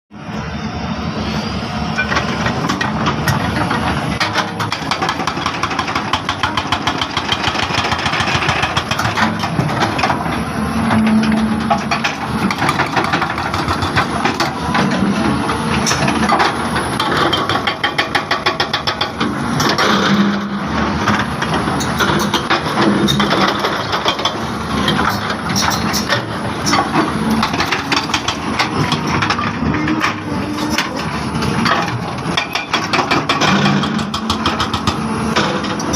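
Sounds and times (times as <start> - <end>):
excavator diesel engine running: 0.1 - 35.9
sharp knocks and rattles: 2.1 - 15.0, 15.9 - 35.9.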